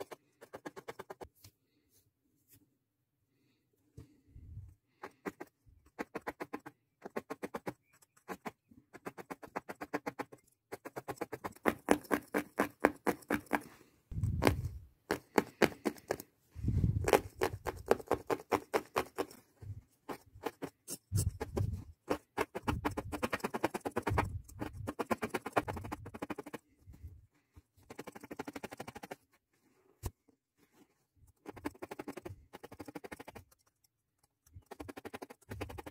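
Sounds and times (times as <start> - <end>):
felting needle poking: 0.0 - 1.6, 4.0 - 29.4, 30.0 - 35.9.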